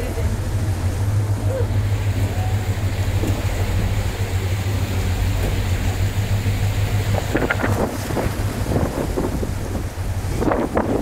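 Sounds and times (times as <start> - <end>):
boat engine droning: 0.0 - 11.0
wind and water rushing: 0.0 - 11.0.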